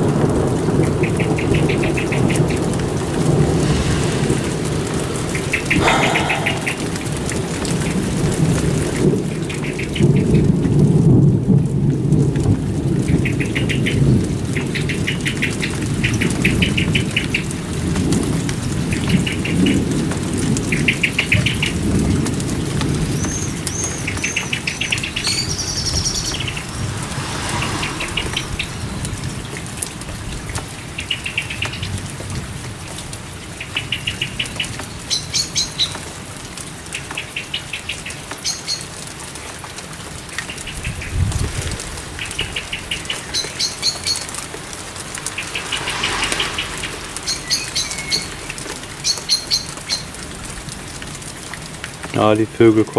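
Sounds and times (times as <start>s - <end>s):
low rumble of thunder: 0.0s - 33.4s, 40.7s - 51.8s
steady rain falling: 0.0s - 52.9s.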